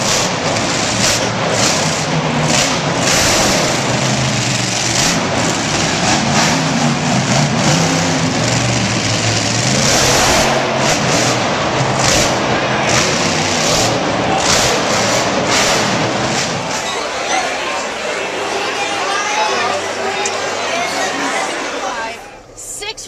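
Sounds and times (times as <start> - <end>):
motor engines revving: 0.0 - 21.8.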